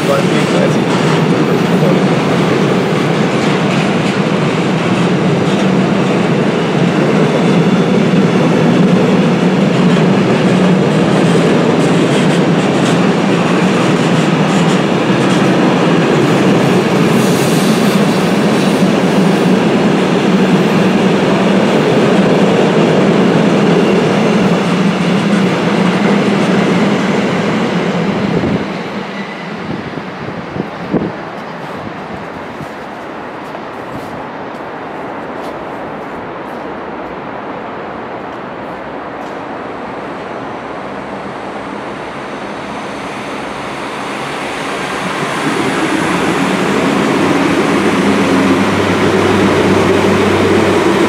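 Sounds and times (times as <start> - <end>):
train wheels rolling on rails: 0.0 - 51.0.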